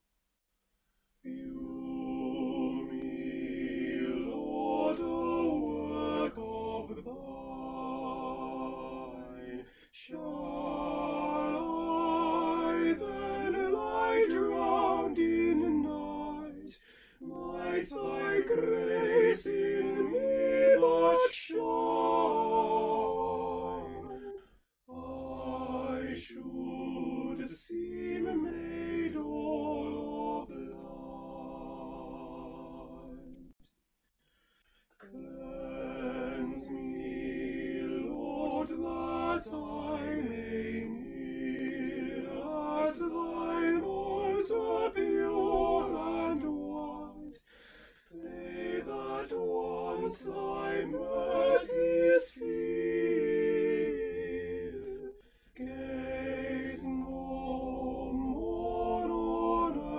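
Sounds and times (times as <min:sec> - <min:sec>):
layered choral singing: 0:01.2 - 0:33.6, 0:35.0 - 0:59.9.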